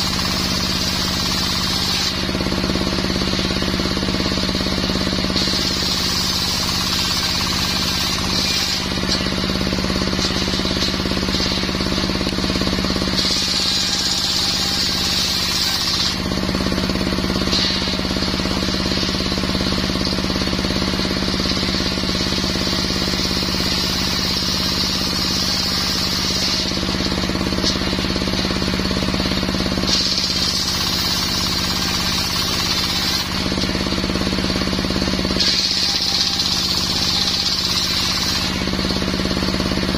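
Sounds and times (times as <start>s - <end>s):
circular saw whine: 0.0s - 39.9s
engine buzz: 0.0s - 39.9s.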